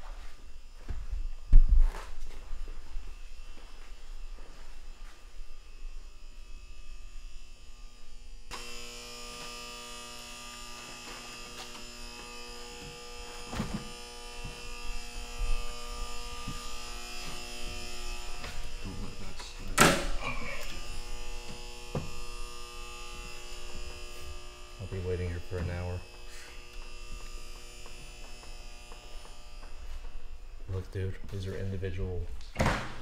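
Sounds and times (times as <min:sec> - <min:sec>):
electrical buzz with held tones: 0:00.0 - 0:33.0
low mains hum: 0:00.0 - 0:33.0.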